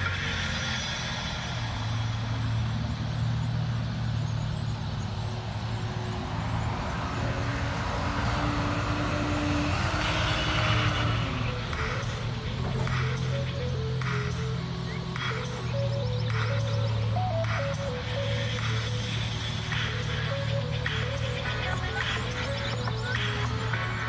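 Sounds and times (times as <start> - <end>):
held engine note: 0.0 - 24.0
road traffic: 0.0 - 24.0.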